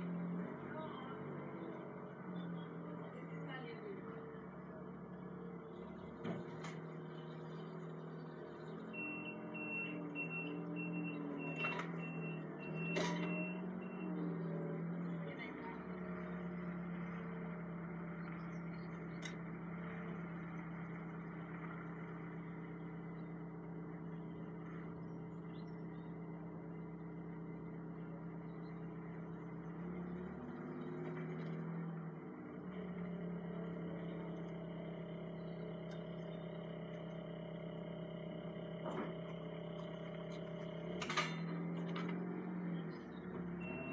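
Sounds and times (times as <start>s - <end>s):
truck engine hum: 0.0s - 43.9s.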